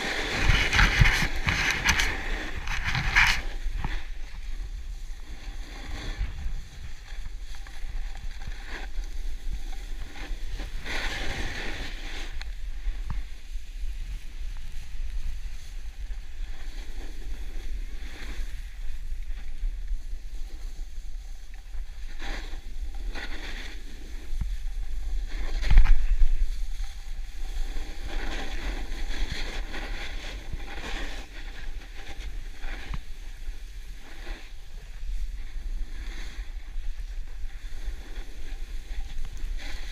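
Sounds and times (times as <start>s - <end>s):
skis scraping over packed snow: 0.0s - 39.9s
wind rumbling on microphone: 0.0s - 39.9s.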